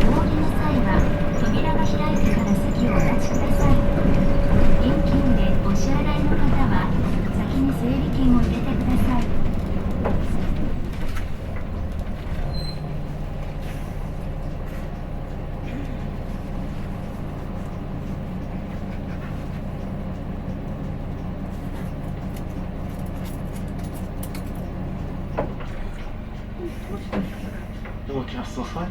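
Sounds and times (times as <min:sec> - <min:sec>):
light rattles and clicks: 0:00.0 - 0:28.1
bus diesel engine running: 0:00.0 - 0:28.9.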